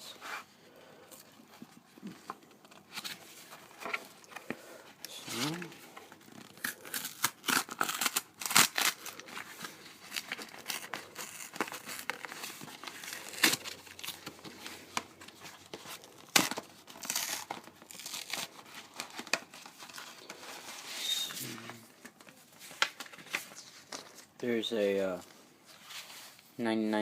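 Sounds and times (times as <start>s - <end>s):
packaging crinkling and tearing: 2.0s - 24.4s.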